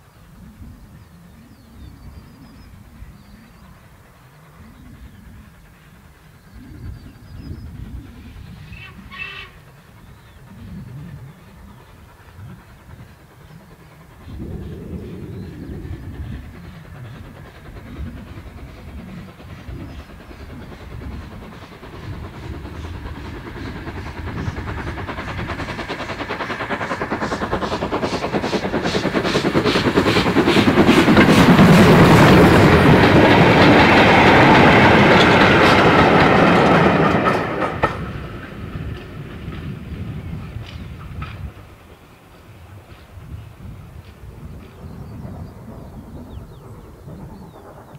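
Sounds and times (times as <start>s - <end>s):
steam engine exhaust beats: 0.0s - 47.9s
train wheels clattering on rails: 5.1s - 47.9s.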